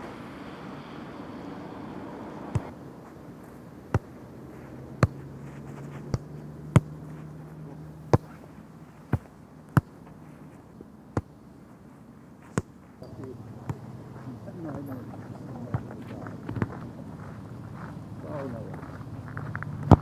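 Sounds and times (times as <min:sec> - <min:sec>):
foot kicking football: 0:02.4 - 0:20.0.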